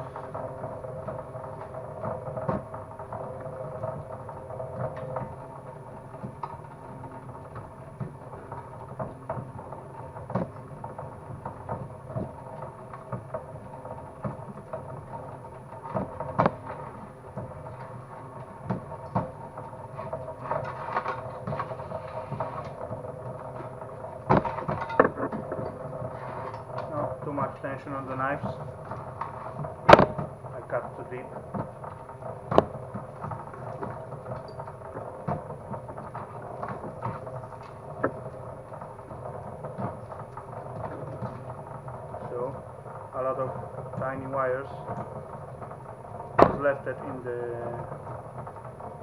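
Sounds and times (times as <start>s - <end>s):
motor running with steady hum: 0.0s - 49.0s.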